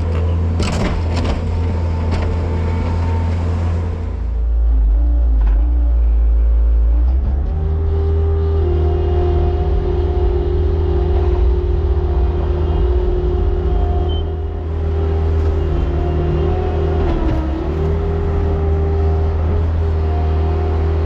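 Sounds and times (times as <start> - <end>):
farm vehicle engine running: 0.0 - 21.0.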